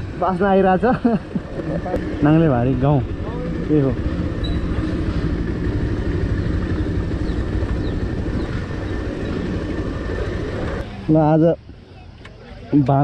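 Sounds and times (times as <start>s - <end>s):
motorcycle engine drone: 0.0s - 13.0s
wind and road noise: 0.0s - 13.0s.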